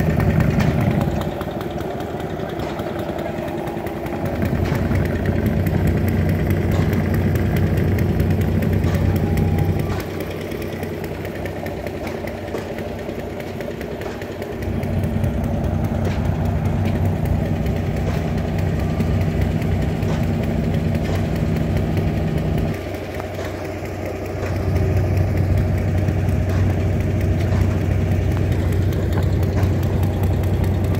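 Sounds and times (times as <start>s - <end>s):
old engines idling: 0.0s - 30.9s.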